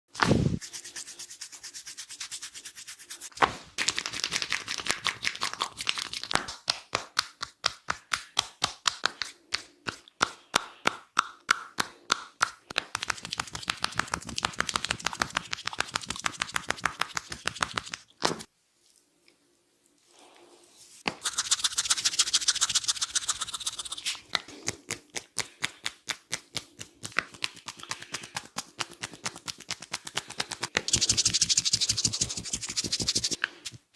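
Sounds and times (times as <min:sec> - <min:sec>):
hands tapping and rubbing scalp: 0:03.4 - 0:18.5, 0:21.0 - 0:33.8.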